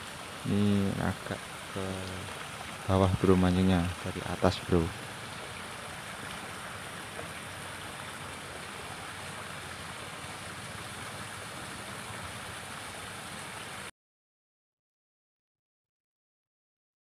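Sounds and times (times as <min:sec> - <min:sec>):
river water rushing: 0:00.0 - 0:13.9.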